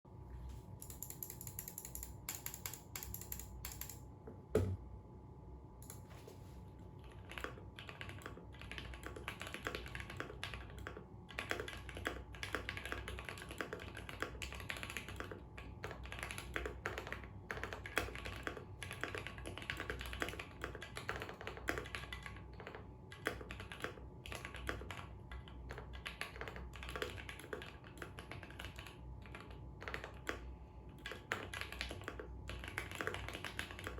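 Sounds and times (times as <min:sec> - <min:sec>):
mechanical keyboard typing: 0:00.8 - 0:04.0, 0:05.8 - 0:06.0, 0:07.0 - 0:33.9.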